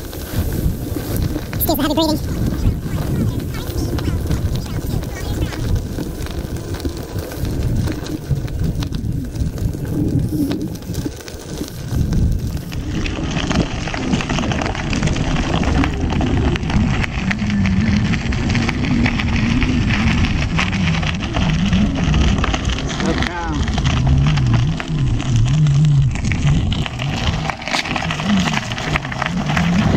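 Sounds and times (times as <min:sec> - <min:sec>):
tyre rolling over gravel: 0:00.0 - 0:29.9
wind rumbling on microphone: 0:00.0 - 0:29.9.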